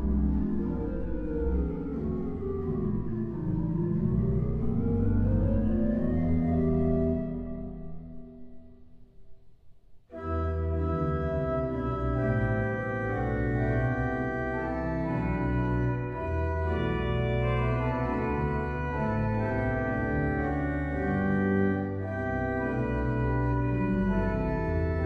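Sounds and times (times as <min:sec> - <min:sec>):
pipe organ playing chords: 0:00.0 - 0:08.7, 0:10.1 - 0:25.0.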